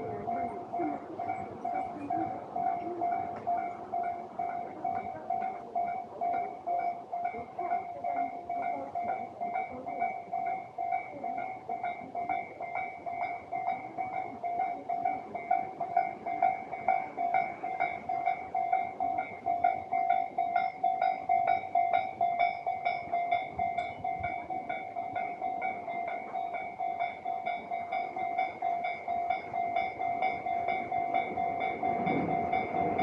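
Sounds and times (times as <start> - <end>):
level crossing warning bell: 0.0 - 33.0.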